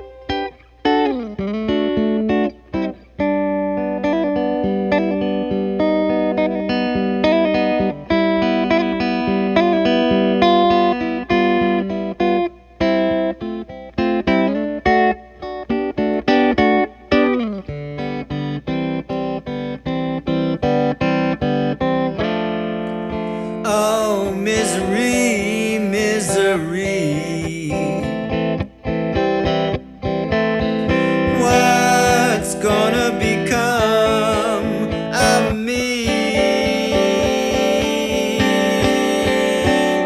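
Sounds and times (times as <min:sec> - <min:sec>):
cigar box guitar picked notes: 0:00.0 - 0:40.0.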